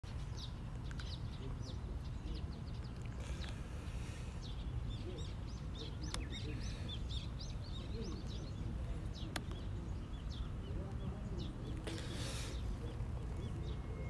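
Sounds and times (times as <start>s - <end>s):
small birds chirping: 0.1s - 14.0s
steady low rumble: 0.1s - 14.0s.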